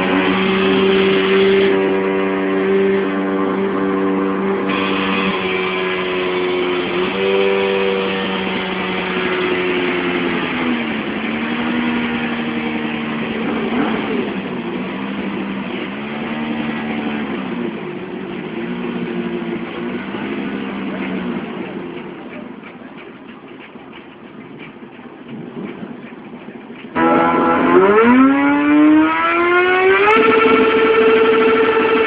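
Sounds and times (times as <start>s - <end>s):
motorcycle engine running hard: 0.0s - 32.0s.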